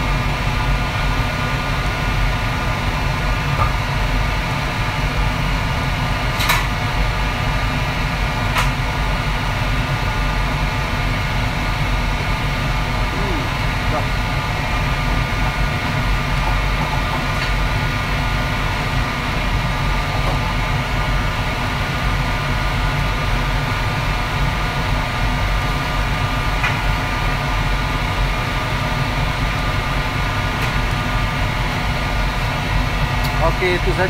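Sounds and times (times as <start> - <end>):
gas burner and exhaust hood roar: 0.0 - 34.0.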